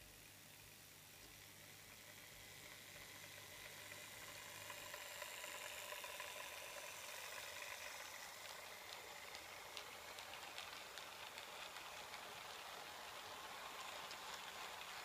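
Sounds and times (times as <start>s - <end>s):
model train wheels rushing on rails: 1.3s - 15.0s.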